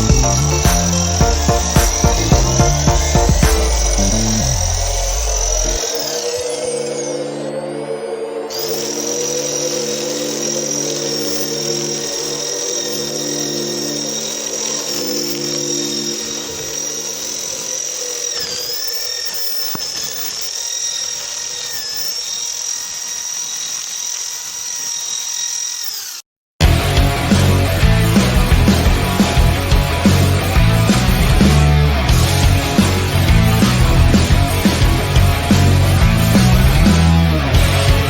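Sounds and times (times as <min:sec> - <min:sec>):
electric drill whining: 0:00.0 - 0:07.6, 0:08.2 - 0:38.0.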